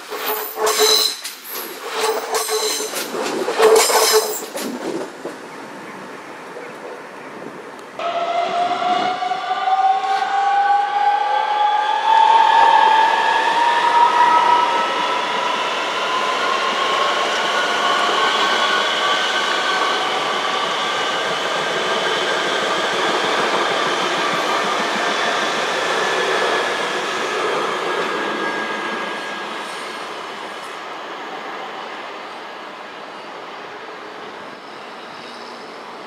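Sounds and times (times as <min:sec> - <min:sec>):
train wheels on rails: 0:00.0 - 0:36.0.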